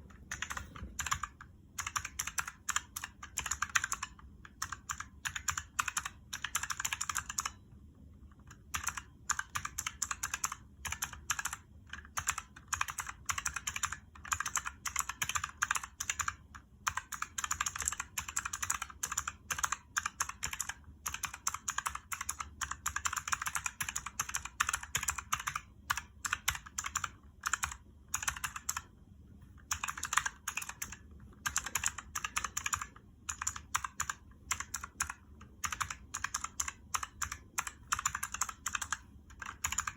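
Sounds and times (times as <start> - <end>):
clicky keyboard typing: 0.0 - 7.6, 8.3 - 39.9.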